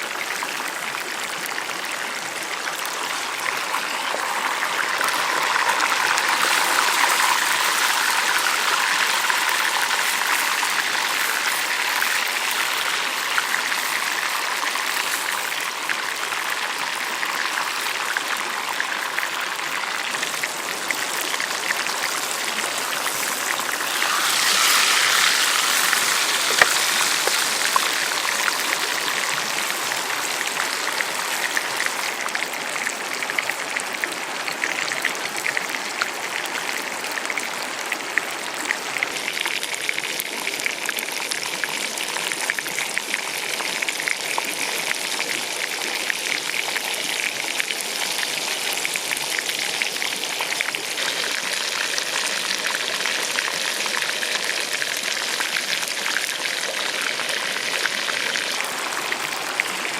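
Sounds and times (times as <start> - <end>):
hot oil sizzling and crackling: 0.0 - 59.9.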